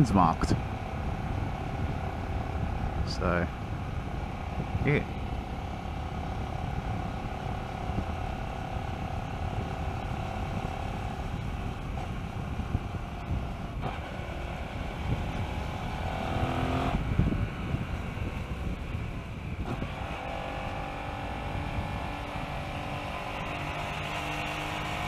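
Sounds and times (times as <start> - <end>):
motorcycle engine: 0.0 - 25.0
wind rush over microphone: 0.0 - 25.0.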